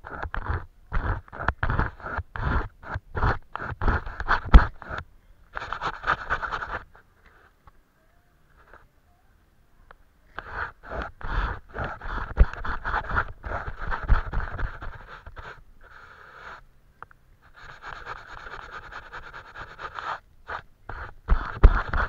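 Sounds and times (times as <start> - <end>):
painting tool scratching paper: 0.0 - 7.5, 10.3 - 16.6, 17.4 - 22.0.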